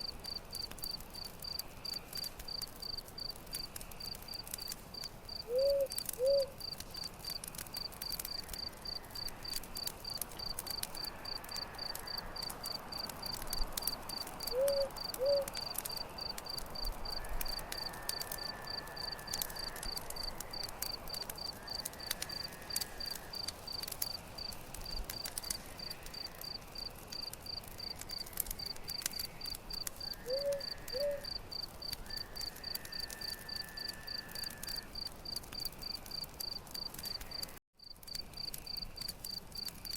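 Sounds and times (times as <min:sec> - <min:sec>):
campfire crackling and popping: 0:00.0 - 0:39.9
cricket chirping: 0:00.0 - 0:39.9.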